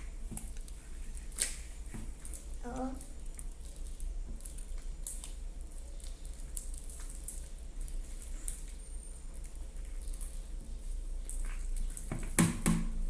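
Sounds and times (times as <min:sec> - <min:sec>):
hands squishing sticky slime: 0:00.0 - 0:13.0.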